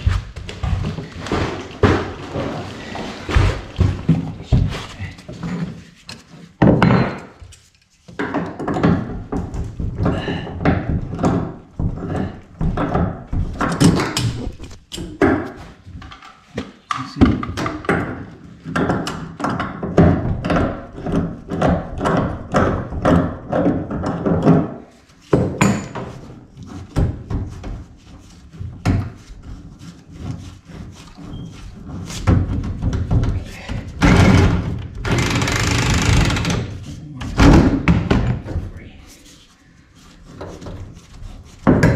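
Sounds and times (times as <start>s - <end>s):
knocks and thuds on plastic pipework: 0.0s - 39.0s, 40.2s - 41.9s.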